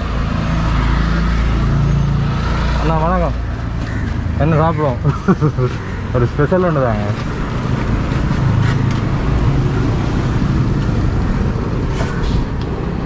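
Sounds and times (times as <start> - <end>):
passing vehicles engine rumble: 0.0 - 13.0.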